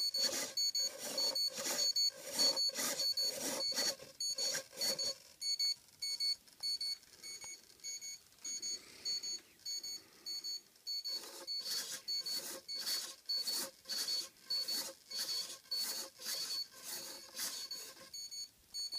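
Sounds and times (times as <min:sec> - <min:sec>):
steering servo whirring: 0:00.0 - 0:08.0, 0:08.6 - 0:18.4.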